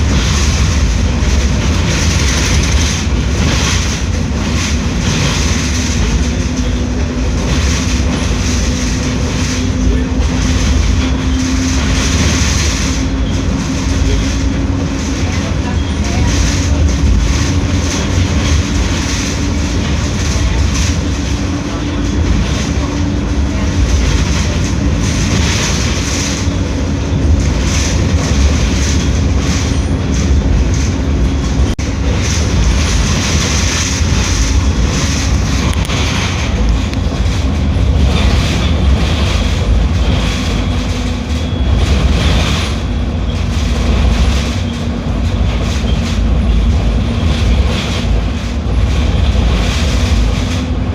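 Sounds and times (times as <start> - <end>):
bus engine rumbling: 0.0 - 50.9.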